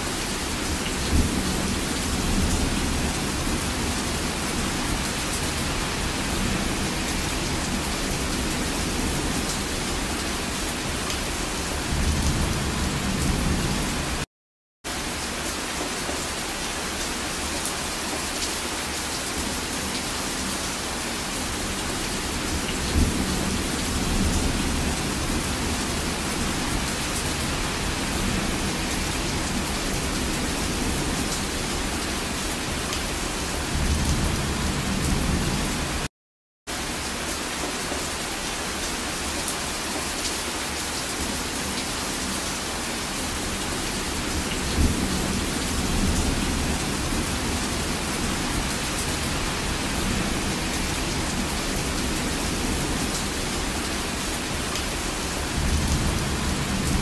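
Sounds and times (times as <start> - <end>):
rain falling: 0.0 - 14.3, 14.9 - 36.1, 36.7 - 57.0.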